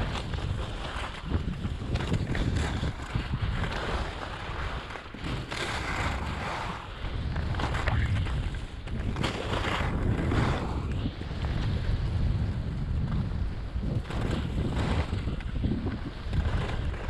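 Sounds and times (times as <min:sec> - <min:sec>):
skis carving on snow: 0:00.0 - 0:17.0
wind buffeting microphone: 0:00.0 - 0:17.0.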